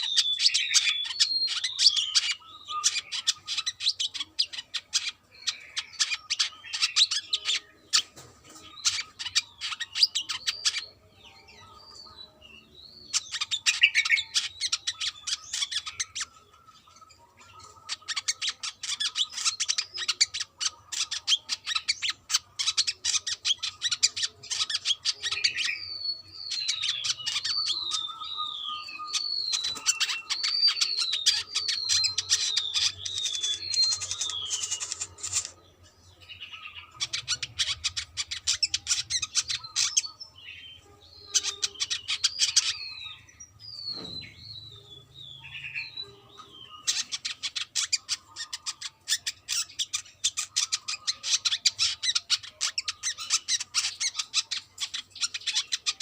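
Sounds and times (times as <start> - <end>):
sunbird chirping and whistling: 0.0 - 8.1, 8.7 - 17.0, 17.6 - 56.0.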